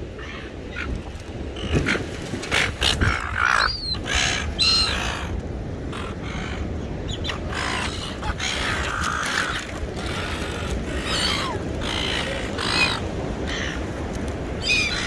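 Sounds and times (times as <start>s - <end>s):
gulls squawking: 1.6s - 13.9s, 14.6s - 15.0s.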